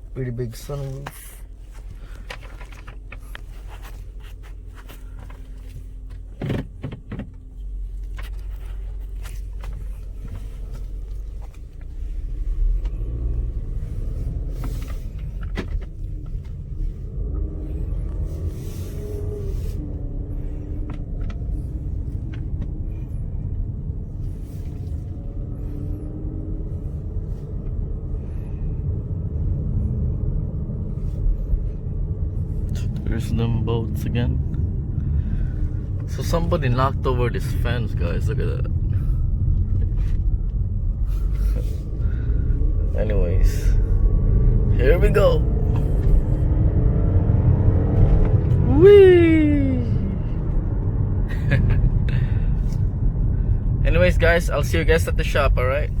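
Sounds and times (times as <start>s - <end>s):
car cabin rumble: 0.0s - 56.0s.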